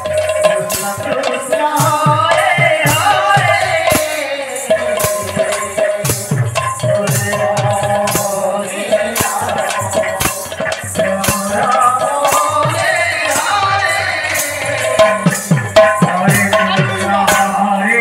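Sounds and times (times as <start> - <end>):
barrel drums played fast: 0.0 - 18.0
jingling metal percussion: 0.0 - 18.0.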